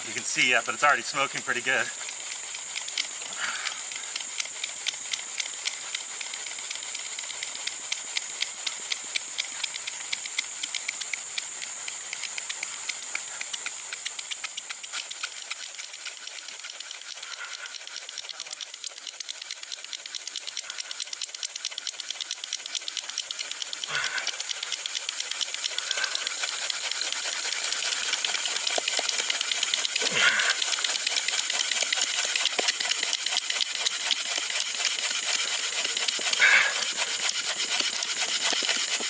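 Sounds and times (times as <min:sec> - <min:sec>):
wooden stick scraping fungus: 0:00.0 - 0:39.0.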